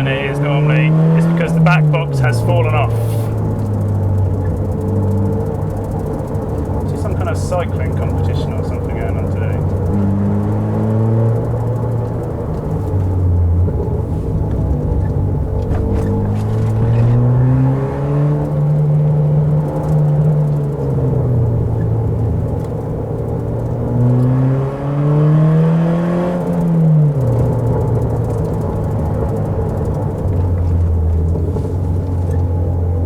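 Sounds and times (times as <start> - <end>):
car engine revving under load: 0.0 - 33.0.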